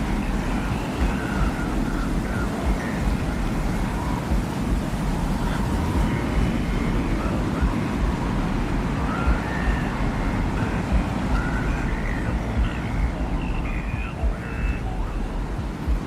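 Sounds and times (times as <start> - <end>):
faint high whistling tones: 0.0 - 16.0
low rumble of wind-like noise: 0.0 - 16.0.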